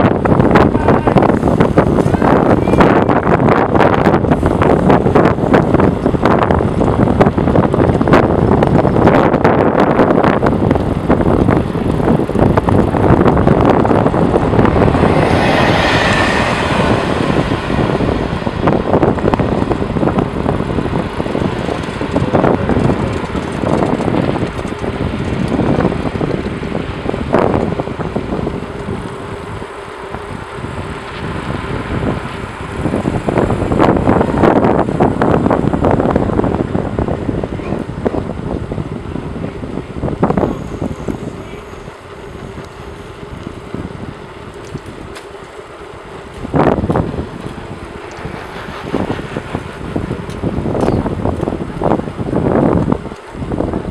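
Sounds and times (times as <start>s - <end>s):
tyre and road noise: 0.0s - 53.9s
wind buffeting microphone: 0.0s - 53.9s.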